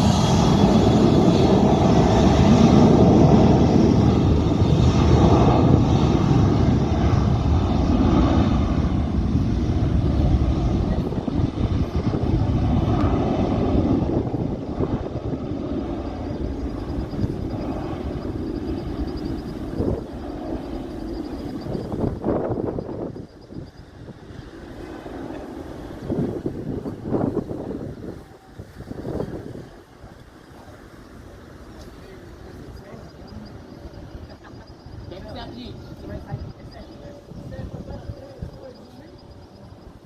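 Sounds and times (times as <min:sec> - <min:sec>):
jet engine rumble: 0:00.0 - 0:40.0.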